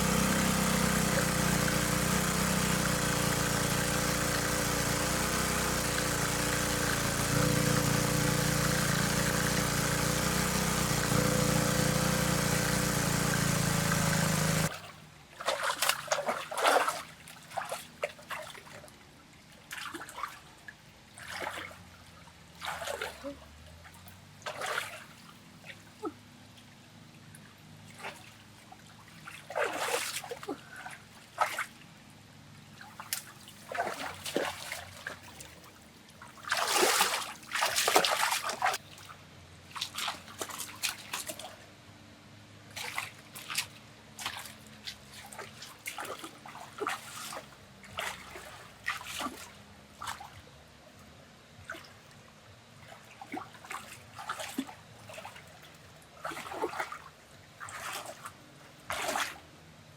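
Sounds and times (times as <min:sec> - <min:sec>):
water splashing and sloshing: 0:00.0 - 0:41.8, 0:42.6 - 0:59.7.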